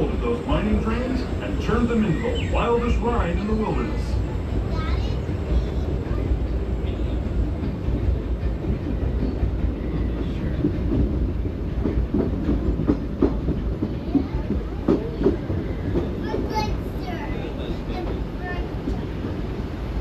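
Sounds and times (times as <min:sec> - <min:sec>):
clickety-clack over rail joints: 0:00.0 - 0:20.0
train wheels rumbling on rails: 0:00.0 - 0:20.0.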